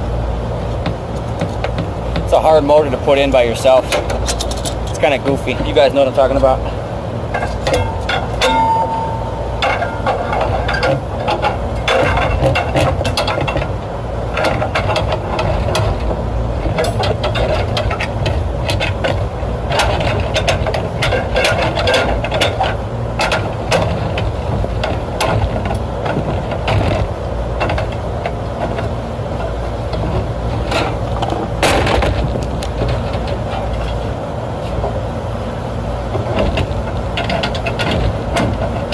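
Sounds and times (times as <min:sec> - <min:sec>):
steady low rumble: 0:00.0 - 0:38.9
metallic clicks clanks and rattles: 0:00.7 - 0:35.1, 0:35.8 - 0:38.9.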